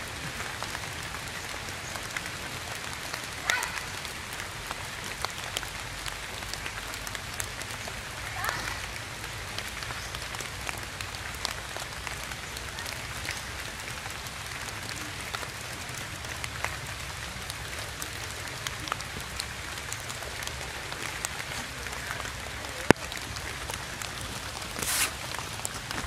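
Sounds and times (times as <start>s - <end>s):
raindrop ticks: 0.0s - 26.0s
steady rain falling: 0.0s - 26.0s.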